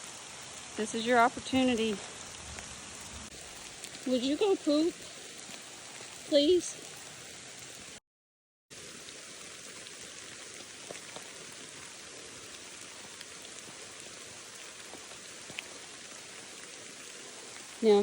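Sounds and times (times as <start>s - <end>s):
steady rain: 0.0s - 8.0s, 8.7s - 18.0s.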